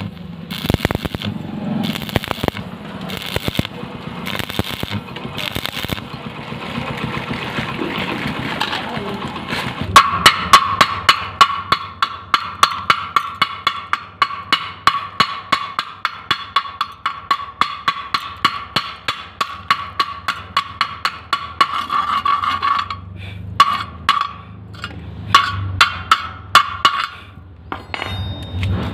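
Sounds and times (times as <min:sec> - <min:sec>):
hammer striking steel: 0:00.0 - 0:06.2, 0:09.9 - 0:28.7.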